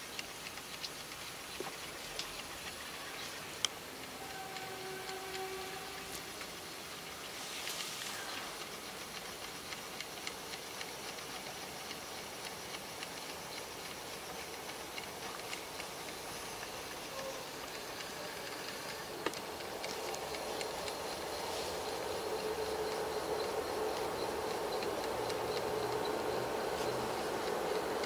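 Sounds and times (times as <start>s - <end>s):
slider carriage hissing and clicking: 0.0s - 28.0s.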